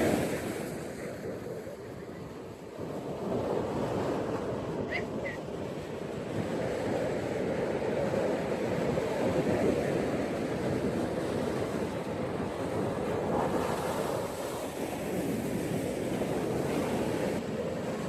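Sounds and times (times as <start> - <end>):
ocean surf washing onto beach: 0.0 - 18.0.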